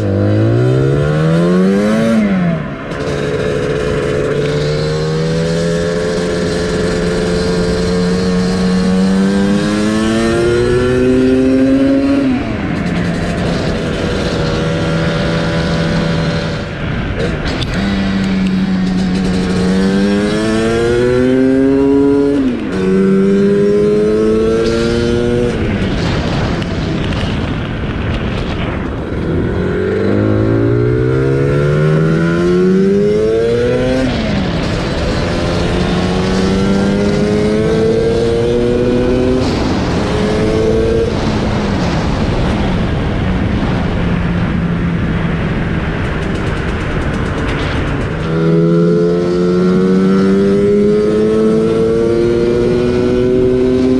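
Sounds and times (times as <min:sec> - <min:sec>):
two-stroke engine accelerating: 0:00.0 - 0:53.9.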